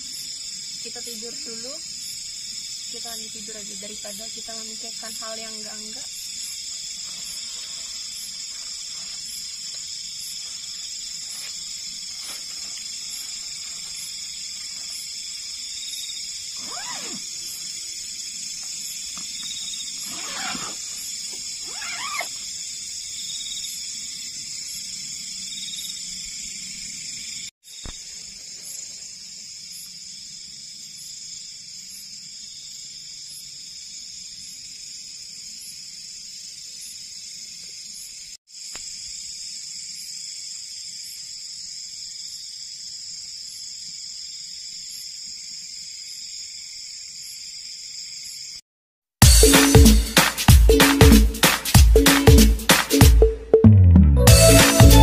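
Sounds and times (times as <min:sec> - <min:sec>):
insects chirring: 0:00.0 - 0:48.6.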